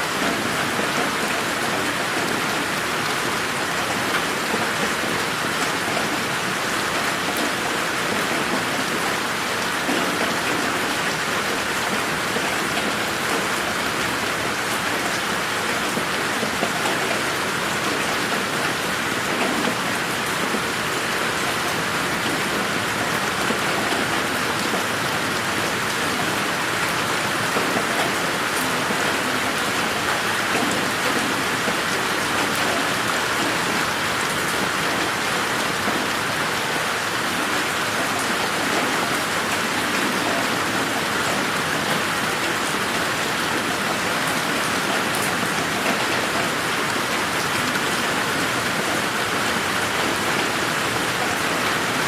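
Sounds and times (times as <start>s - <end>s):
rain falling on a garden: 0.0s - 52.0s.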